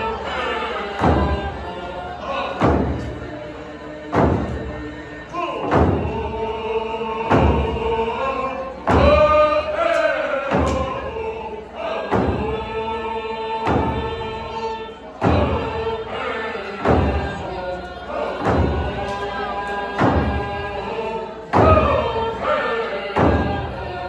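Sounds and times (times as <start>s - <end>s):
slow heavy drum beat: 0.0s - 14.6s, 15.2s - 17.6s, 18.2s - 22.6s, 23.2s - 23.9s
group singing in unison: 0.0s - 24.0s.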